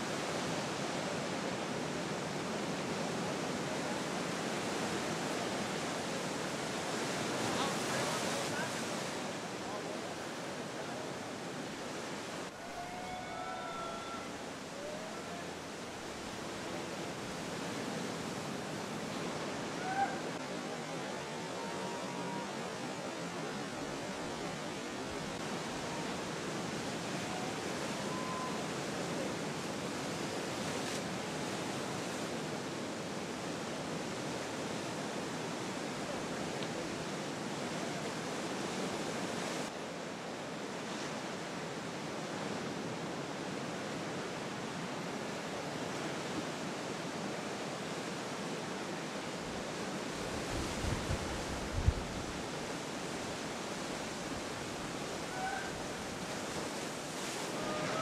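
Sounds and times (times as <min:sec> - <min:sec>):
ocean surf breaking: 0:00.0 - 0:39.8, 0:40.4 - 0:58.0.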